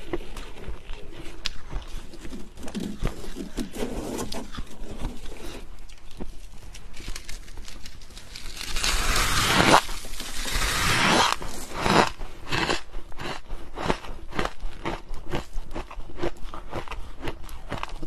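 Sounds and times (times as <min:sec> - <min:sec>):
freezer frost crunching: 0:00.0 - 0:18.0.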